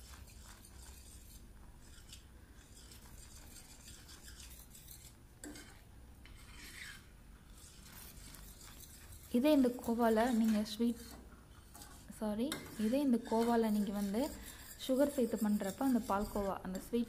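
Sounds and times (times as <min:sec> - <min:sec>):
metal spoon scraping a pan: 0:00.0 - 0:17.0.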